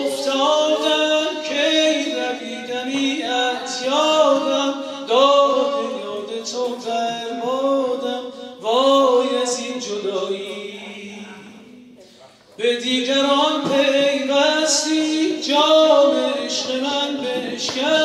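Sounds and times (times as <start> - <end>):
man singing slow melody: 0.0 - 11.6, 12.6 - 18.0.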